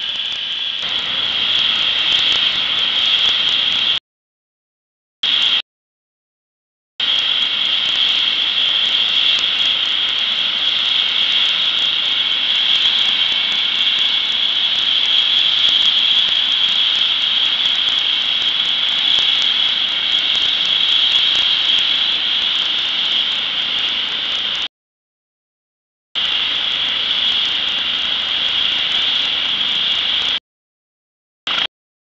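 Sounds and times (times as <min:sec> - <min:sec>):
constant rushing noise: 0:00.0 - 0:04.0, 0:07.0 - 0:24.7, 0:26.2 - 0:30.4
helicopter turbine whine: 0:00.0 - 0:04.0, 0:05.2 - 0:05.6, 0:07.0 - 0:24.7, 0:26.2 - 0:30.4.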